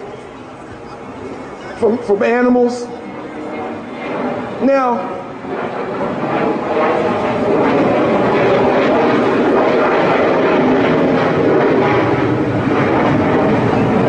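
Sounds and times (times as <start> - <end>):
airplane passing overhead: 0.0 - 14.0.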